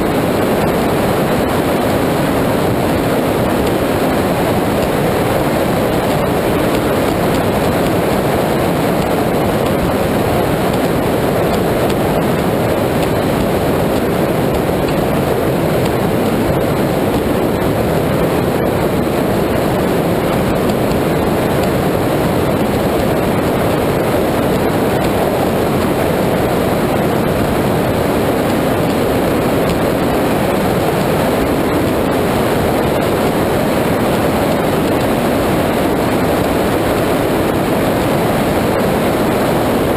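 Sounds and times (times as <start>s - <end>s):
powerboat running at speed: 0.0s - 39.9s.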